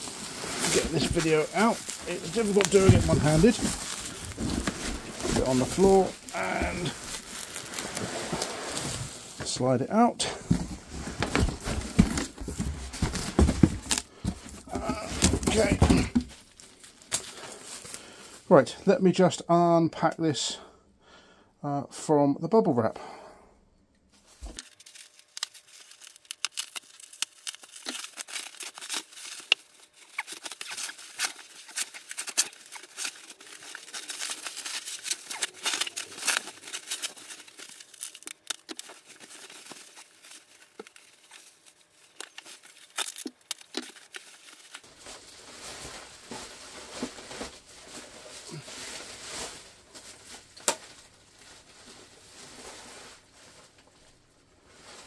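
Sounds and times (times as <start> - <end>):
bubble wrap and tape crinkling: 0.0 - 18.7, 24.1 - 55.0.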